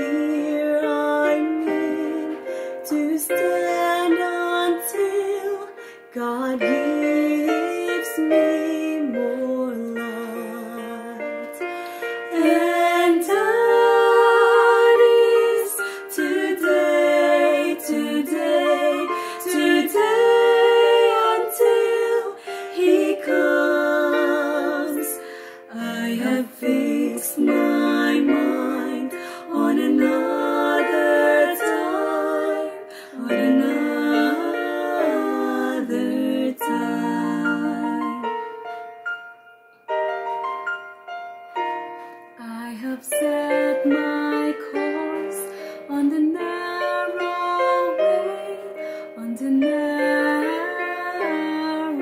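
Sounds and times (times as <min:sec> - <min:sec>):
women singing a hymn in harmony: 0:00.0 - 0:38.5, 0:42.4 - 0:52.0.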